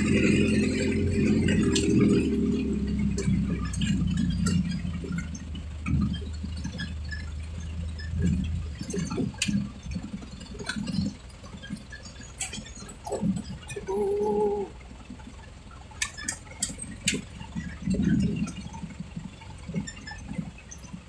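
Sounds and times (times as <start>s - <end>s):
diesel engine running: 0.0s - 21.0s
scattered clicks and knocks: 0.0s - 21.0s.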